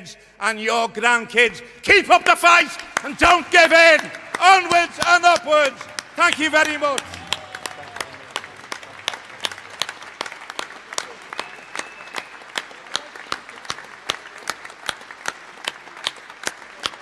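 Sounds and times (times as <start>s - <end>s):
close hands clapping: 2.6s - 17.0s
audience applauding: 2.8s - 17.0s.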